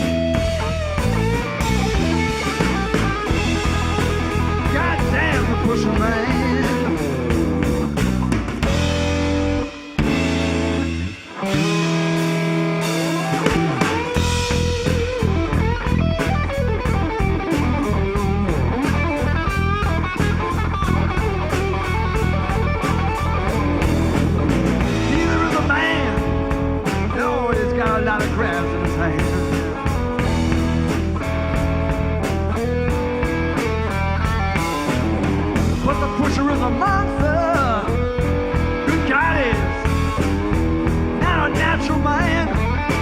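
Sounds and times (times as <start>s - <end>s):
bass guitar: 0.0s - 43.0s
electric guitar lead: 0.0s - 43.0s
steady drum beat: 0.0s - 43.0s.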